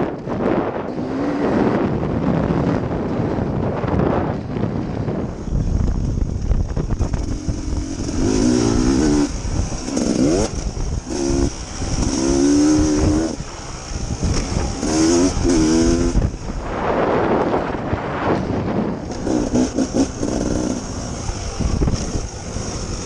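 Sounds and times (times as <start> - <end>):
dirt bike engine revving: 0.4 - 3.2, 5.9 - 23.0.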